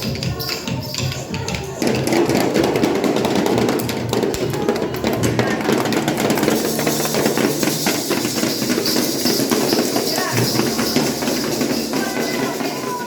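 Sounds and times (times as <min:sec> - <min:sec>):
children playing drums and percussion: 0:00.0 - 0:13.0
music: 0:00.0 - 0:13.0.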